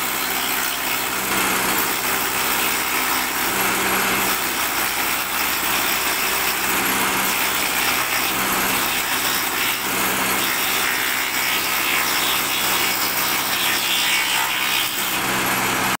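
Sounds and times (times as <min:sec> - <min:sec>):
woodworking machine cutting board: 0:00.0 - 0:16.0.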